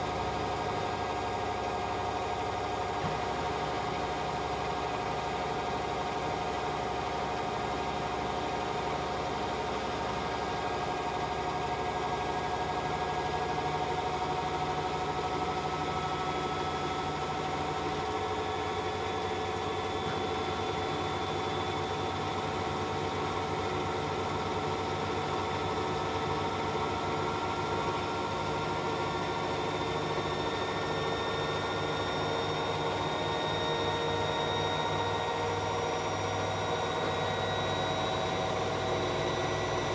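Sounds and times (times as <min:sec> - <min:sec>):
washing machine spin cycle whine: 0:00.0 - 0:39.9.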